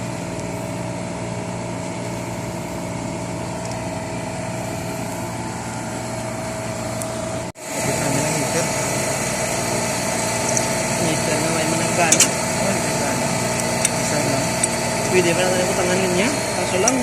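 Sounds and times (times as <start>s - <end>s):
refrigeration unit humming: 0.0s - 17.0s.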